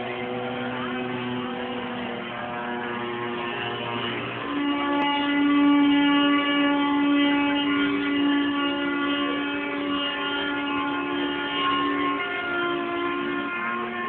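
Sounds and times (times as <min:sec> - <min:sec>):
wooden axle whining drone: 0:00.0 - 0:14.0.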